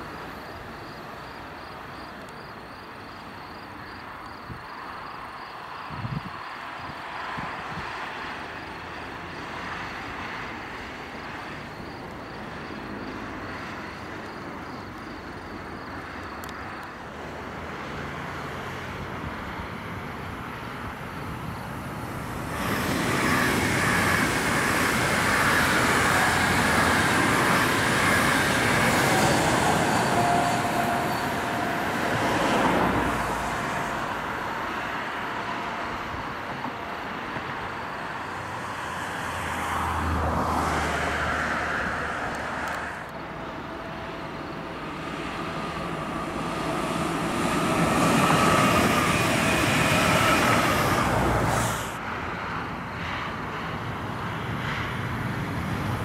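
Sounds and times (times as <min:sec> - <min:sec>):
distant traffic rumble: 0:00.0 - 0:56.0
train wheels rolling on rail: 0:00.0 - 0:56.0
train whine: 0:00.0 - 0:56.0.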